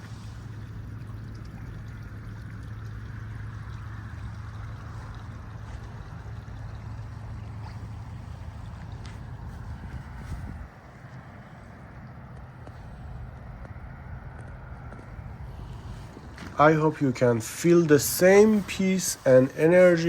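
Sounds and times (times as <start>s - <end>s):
river waves washing against bank: 0.0s - 1.2s, 3.0s - 20.0s
steady low hum: 0.0s - 20.0s.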